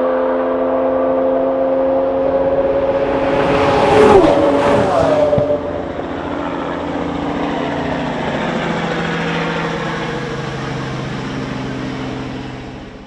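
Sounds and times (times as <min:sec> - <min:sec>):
sports cars passing at speed: 0:00.0 - 0:13.0.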